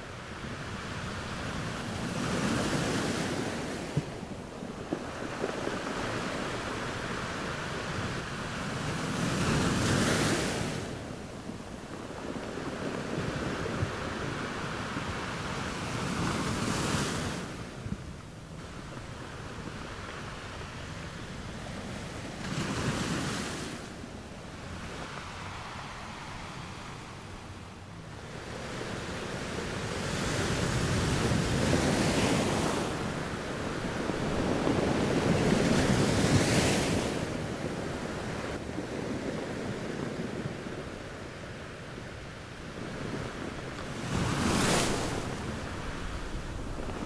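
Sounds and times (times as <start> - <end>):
small waves breaking on beach: 0.0 - 47.0.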